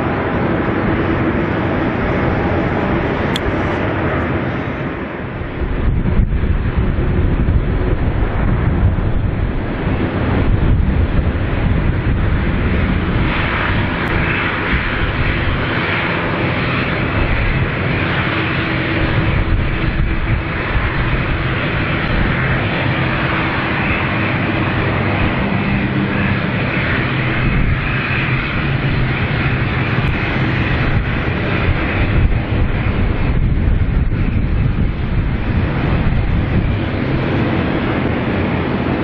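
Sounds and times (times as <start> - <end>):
jet airliner engines roaring: 0.0 - 39.0.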